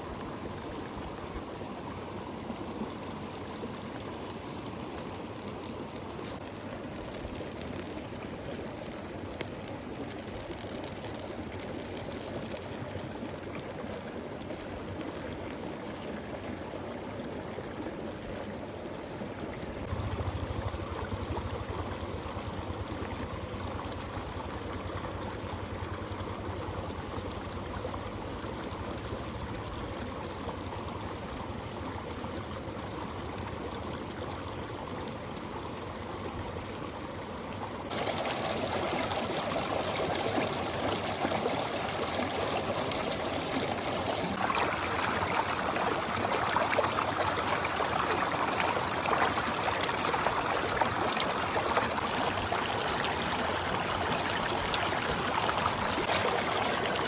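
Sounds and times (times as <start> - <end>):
river flowing: 0.0 - 26.0, 35.8 - 57.0.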